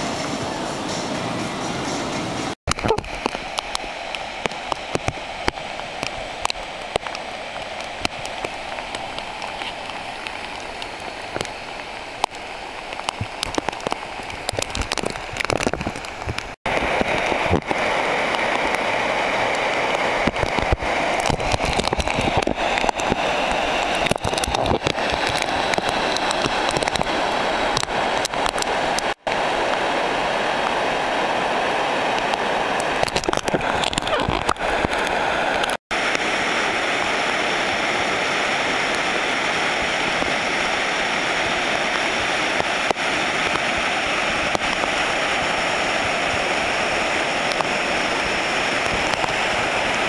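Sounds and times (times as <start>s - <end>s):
flooded river rushing: 0.0s - 50.0s
rain and drips crackling: 2.7s - 50.0s.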